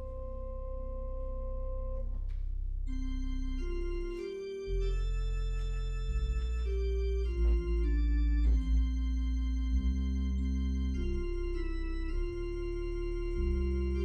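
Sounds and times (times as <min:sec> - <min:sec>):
deep organ bass notes: 0:00.0 - 0:14.0
organ chords: 0:00.0 - 0:14.0.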